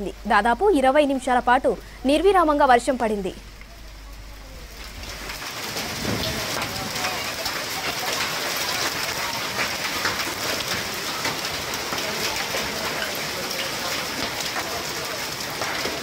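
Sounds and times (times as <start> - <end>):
heavy rain pouring on street: 0.0 - 16.0.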